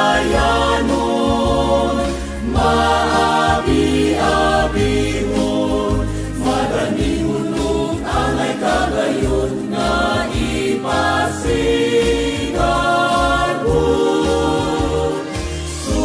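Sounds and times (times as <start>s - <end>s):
choir singing a hymn: 0.0s - 16.0s
instrumental accompaniment: 0.0s - 16.0s.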